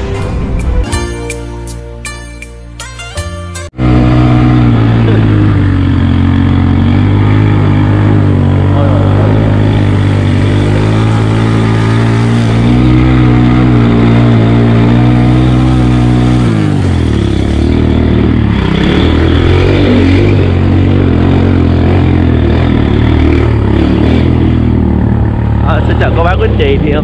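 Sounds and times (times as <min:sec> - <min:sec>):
motorcycle engine under load: 0:03.7 - 0:27.0.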